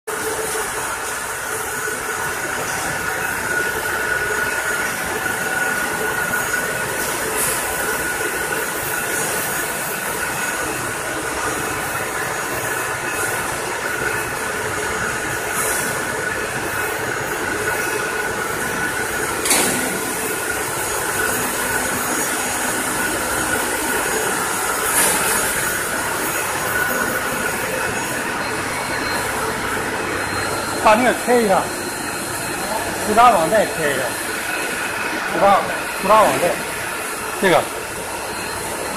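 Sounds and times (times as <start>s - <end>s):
machinery whine and hiss: 0.1s - 38.9s.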